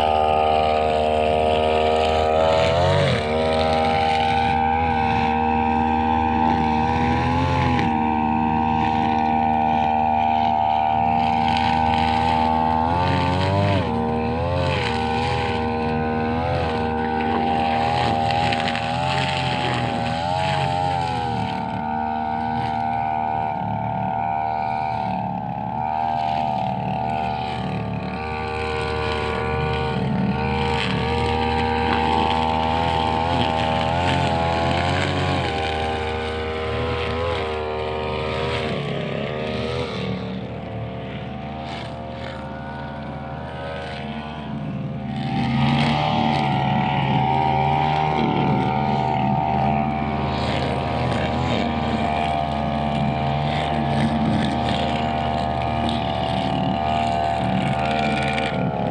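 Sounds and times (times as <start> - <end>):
brushcutter engine cutting grass: 0.0 - 58.9.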